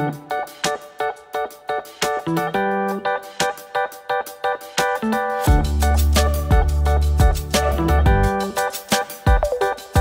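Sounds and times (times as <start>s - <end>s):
repeating plucked notes music: 0.0s - 10.0s.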